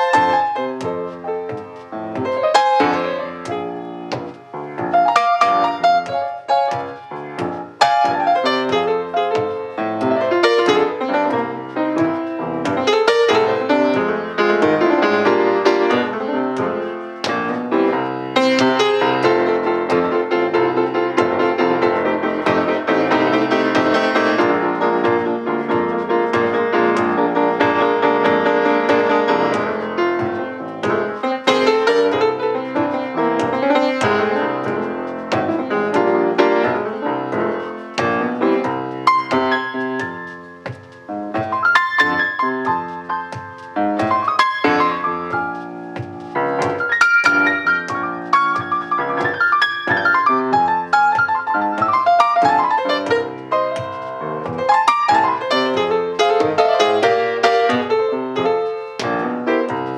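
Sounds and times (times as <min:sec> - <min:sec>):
blues piano playing: 0:00.0 - 0:59.9.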